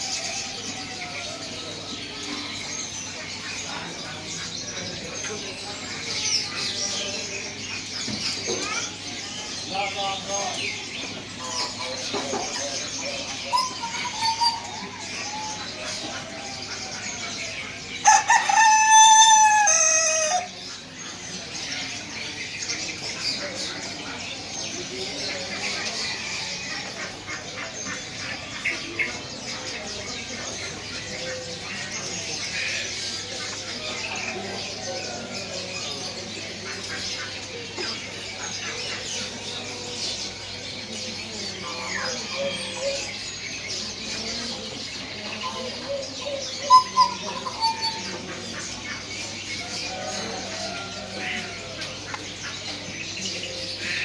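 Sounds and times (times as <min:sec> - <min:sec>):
faint voices: 0:00.0 - 0:54.0
small birds chirping: 0:00.0 - 0:54.0.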